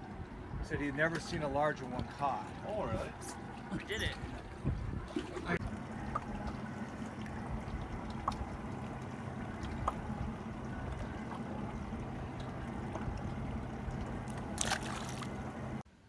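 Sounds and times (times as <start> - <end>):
boat motor running: 0.0 - 15.8
water washing: 0.0 - 15.8.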